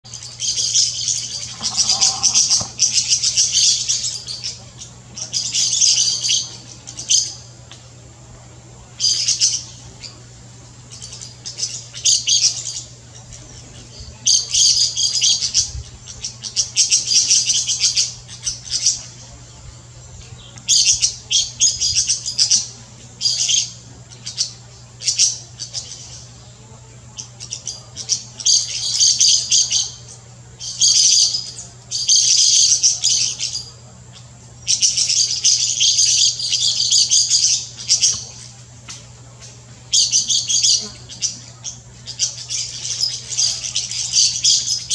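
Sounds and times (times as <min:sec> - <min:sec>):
parakeets chattering: 0:00.1 - 0:44.9.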